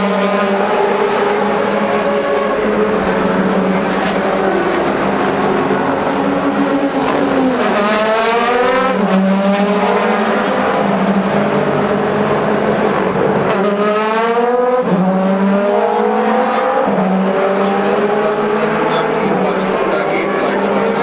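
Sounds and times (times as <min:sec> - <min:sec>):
drone of cars on track: 0:00.0 - 0:21.0
racing car engine accelerating: 0:00.0 - 0:21.0.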